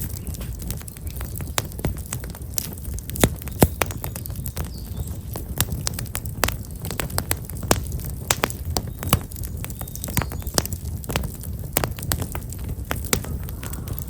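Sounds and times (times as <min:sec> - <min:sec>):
fire low rumble: 0:00.0 - 0:14.0
firewood crackling and popping: 0:00.0 - 0:14.0.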